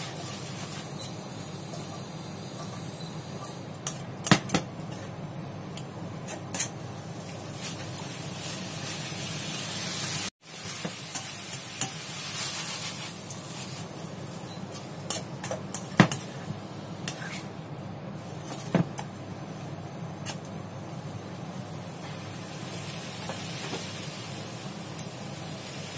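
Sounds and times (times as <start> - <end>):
food sizzling in wok: 0.0 - 3.7, 6.2 - 17.5, 19.6 - 25.9.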